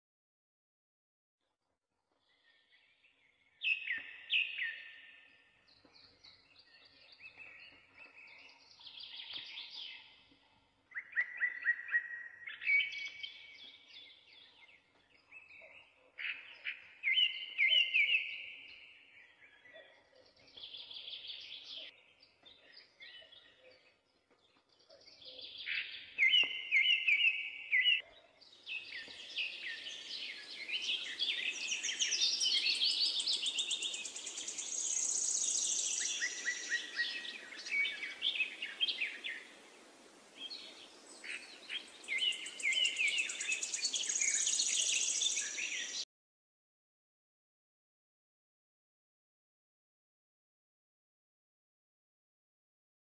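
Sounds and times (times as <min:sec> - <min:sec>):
birds chirping: 0:02.3 - 0:46.1.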